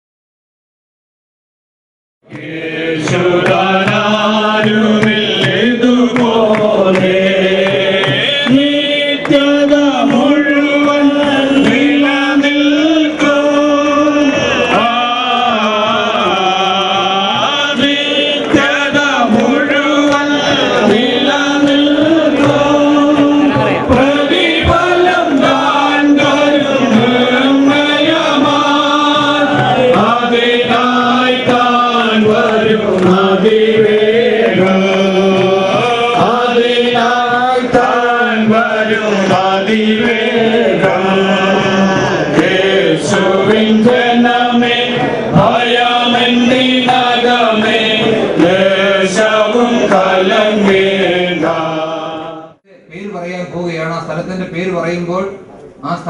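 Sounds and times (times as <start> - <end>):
group singing a hymn in unison: 2.3 - 52.6.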